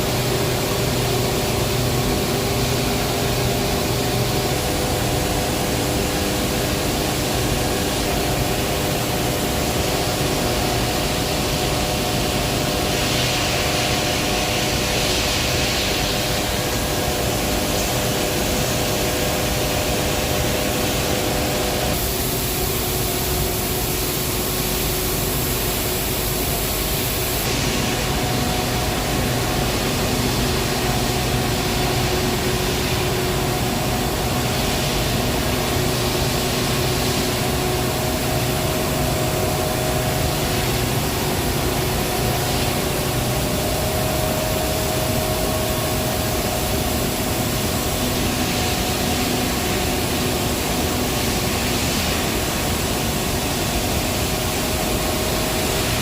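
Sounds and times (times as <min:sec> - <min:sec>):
industrial machinery hiss: 0:00.0 - 0:56.0.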